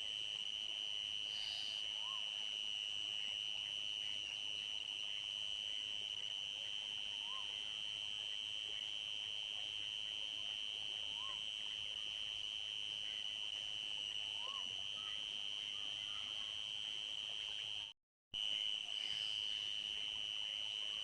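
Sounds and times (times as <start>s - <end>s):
crickets trilling: 0.2s - 21.0s.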